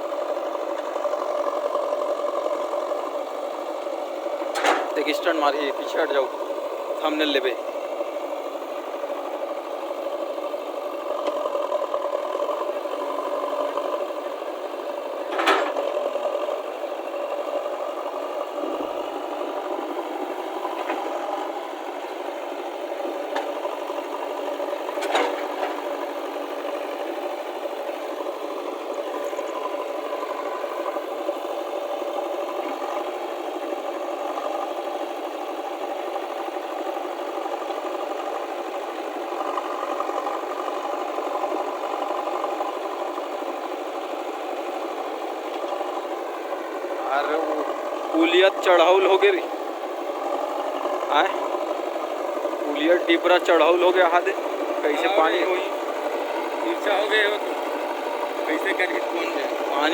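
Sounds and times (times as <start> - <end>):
diesel engine rattling: 0.0 - 59.9.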